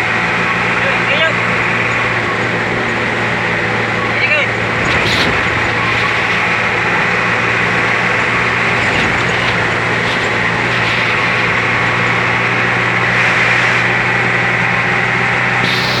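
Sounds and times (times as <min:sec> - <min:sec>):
bus engine hum: 0:00.0 - 0:16.0
road and tyre noise: 0:00.0 - 0:16.0.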